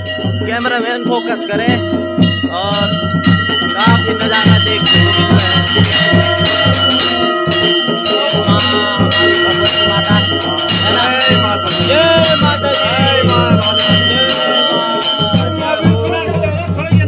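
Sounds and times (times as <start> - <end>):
brass bells ringing: 0.0 - 17.0
rapid low beat: 0.0 - 17.0
crowd voices: 1.8 - 17.0.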